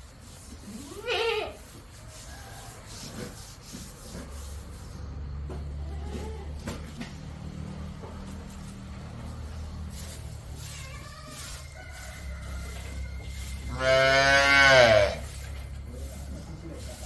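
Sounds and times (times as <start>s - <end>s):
farm animals calling faintly: 0.0s - 7.5s, 8.3s - 17.0s.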